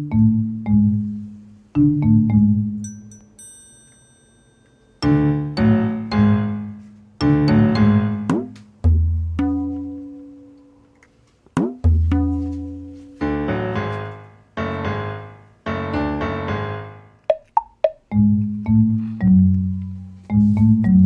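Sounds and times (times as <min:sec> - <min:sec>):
low notes and chords: 0:00.0 - 0:02.9, 0:05.0 - 0:10.8, 0:11.8 - 0:21.0.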